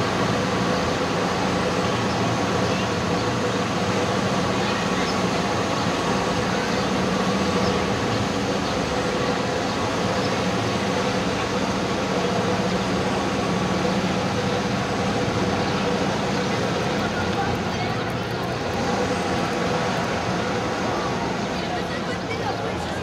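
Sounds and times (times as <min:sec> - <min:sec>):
crowd walking and talking: 0:00.0 - 0:23.0.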